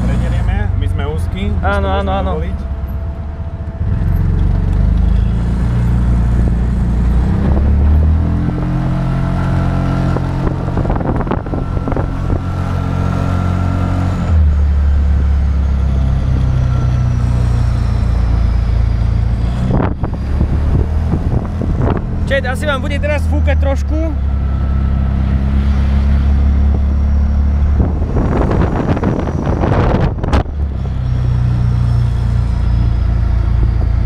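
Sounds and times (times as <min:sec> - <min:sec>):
small car engine running: 0:00.0 - 0:34.0.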